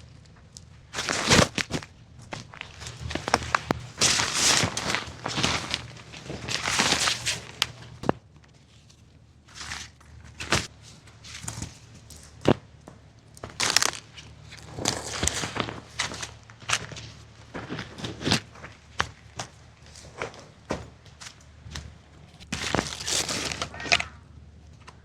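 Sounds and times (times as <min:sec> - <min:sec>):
crunching and rustling: 0:00.0 - 0:25.0.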